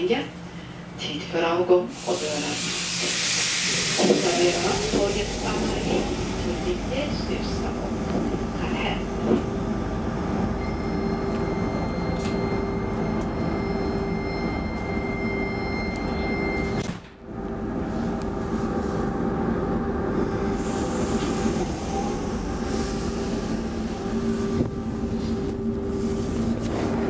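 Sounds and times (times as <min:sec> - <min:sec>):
electric train hum and rumble: 0:00.0 - 0:27.0.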